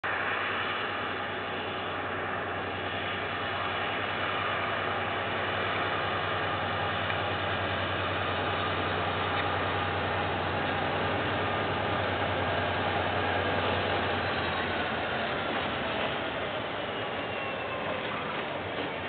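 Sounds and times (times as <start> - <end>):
train wagons rolling past: 0.1 - 19.0.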